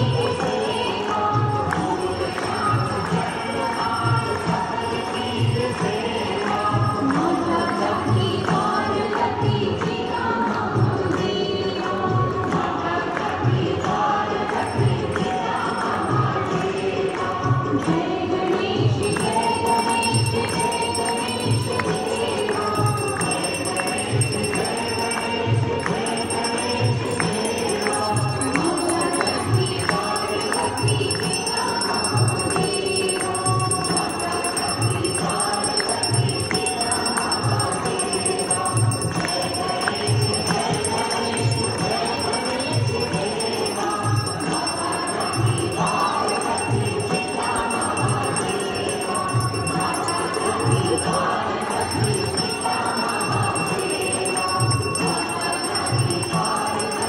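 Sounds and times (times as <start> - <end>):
bells jingling: 0.0 - 9.5, 19.0 - 57.0
voices singing: 0.0 - 57.0.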